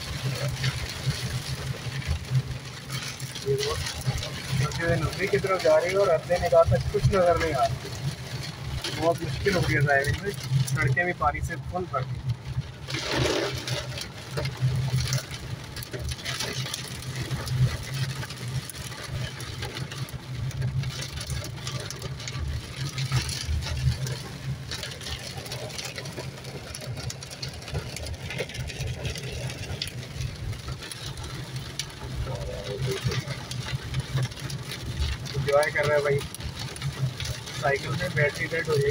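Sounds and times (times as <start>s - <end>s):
car engine hum: 0.0s - 38.9s
rain pattering on car roof: 0.0s - 38.9s.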